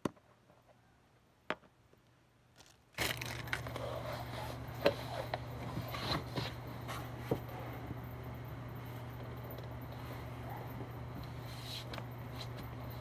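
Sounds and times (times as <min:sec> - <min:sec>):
steady low hum: 0:02.2 - 0:13.0.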